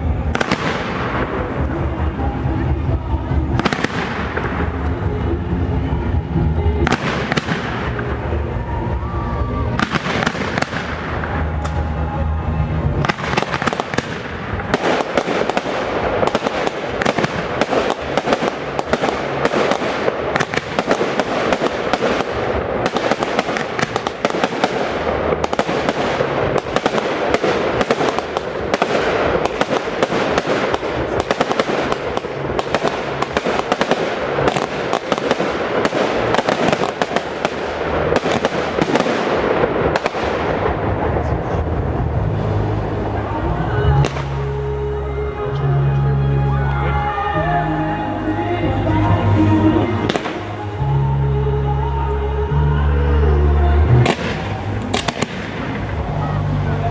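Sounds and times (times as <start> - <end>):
fireworks bangs and crackles: 0.0 - 44.8, 49.2 - 51.1, 53.8 - 56.9.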